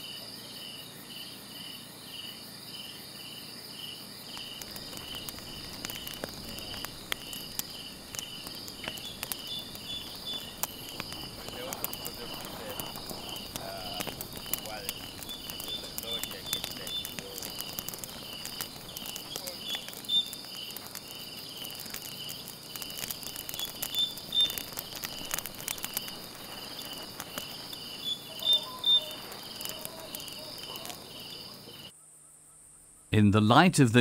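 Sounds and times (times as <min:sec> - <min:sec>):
night insects chirping: 0:00.0 - 0:33.9
campfire crackling and popping: 0:02.8 - 0:31.9.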